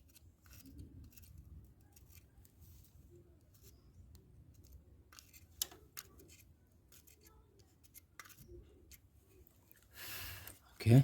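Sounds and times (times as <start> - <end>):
faint clicks and handling noise: 0.0 - 11.0.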